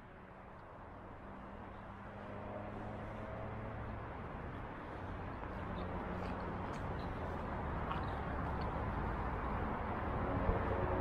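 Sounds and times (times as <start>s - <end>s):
low rumble of vehicles: 0.0s - 11.0s.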